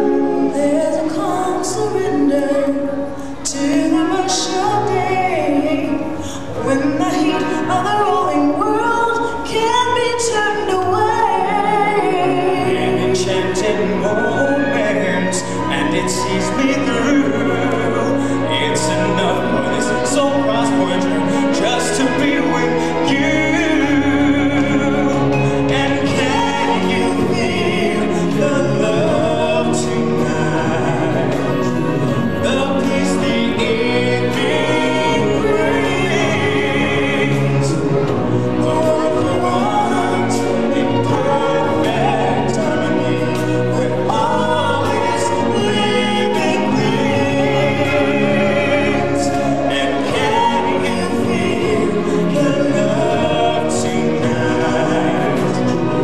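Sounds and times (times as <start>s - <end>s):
choir singing: 0.0s - 56.0s
stage show music: 0.0s - 56.0s.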